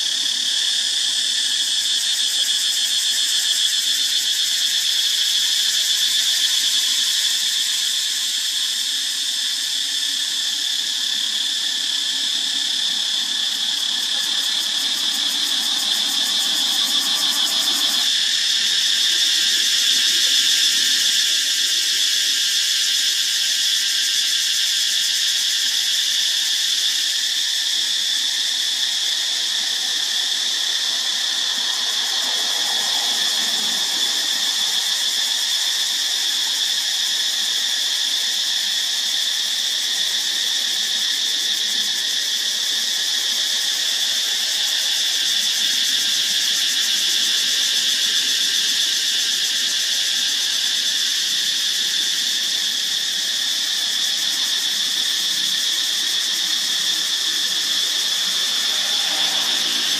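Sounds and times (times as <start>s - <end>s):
cicadas droning: 0.0s - 59.9s.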